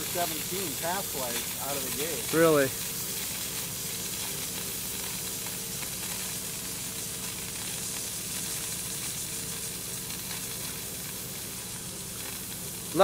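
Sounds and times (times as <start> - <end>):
sprinkler heads hissing: 0.0 - 13.0
steady low hum: 0.0 - 13.0.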